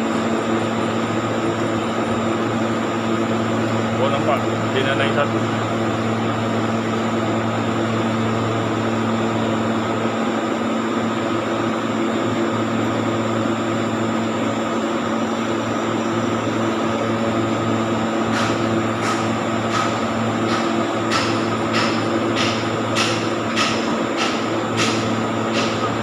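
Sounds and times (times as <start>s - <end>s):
cooling fans rushing: 0.0s - 26.0s.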